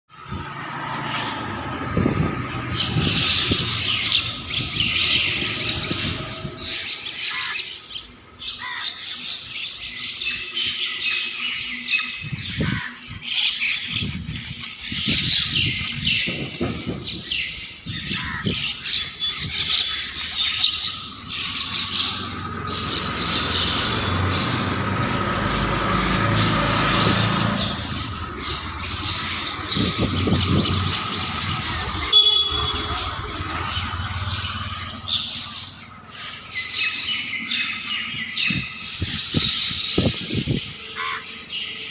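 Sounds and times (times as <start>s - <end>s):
birds squawking and chirping: 0.1s - 41.9s.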